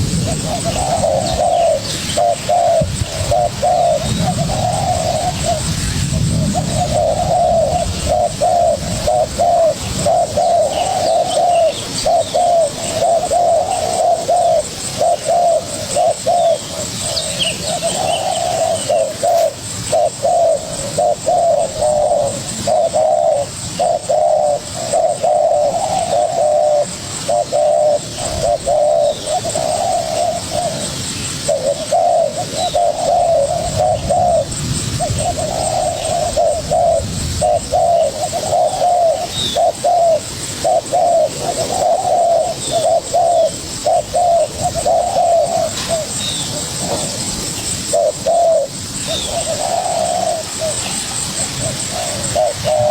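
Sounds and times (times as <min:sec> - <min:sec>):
doves cooing: 0:00.0 - 0:52.9
small birds chirping: 0:00.0 - 0:52.9.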